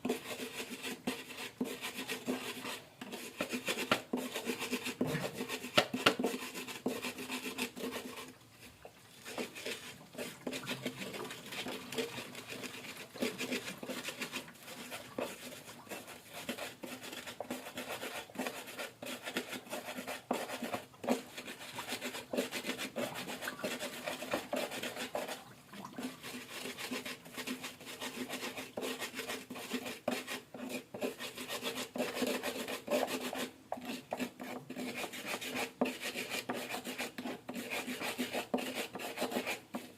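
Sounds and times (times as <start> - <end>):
rasping and scraping food preparation: 0.0 - 39.9.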